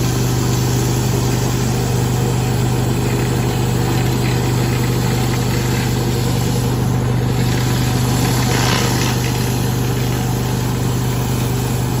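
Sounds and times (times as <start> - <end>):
gas engine running: 0.0 - 12.0
high-pressure water spray hissing: 0.0 - 12.0.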